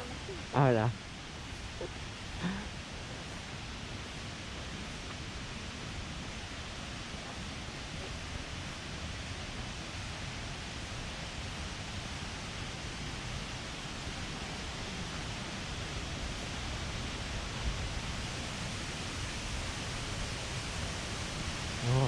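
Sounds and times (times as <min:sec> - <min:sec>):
waterfall rushing: 0:00.0 - 0:22.0
wind rumble on microphone: 0:00.0 - 0:22.0.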